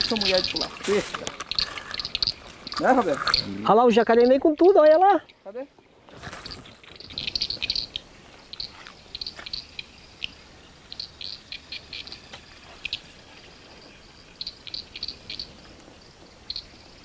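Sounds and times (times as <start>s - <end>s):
small animals chirping: 0.0s - 5.5s, 6.2s - 13.2s, 14.3s - 15.6s.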